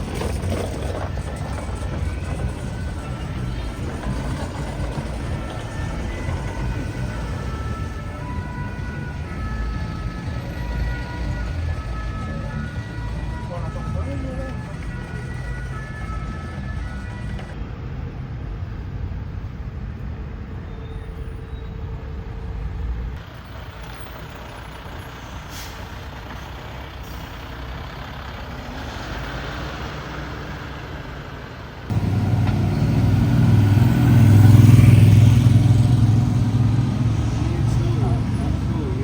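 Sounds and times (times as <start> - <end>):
heavy vehicle engine starting: 0.0 - 17.6, 23.2 - 39.0
road traffic rumbling: 0.0 - 39.0.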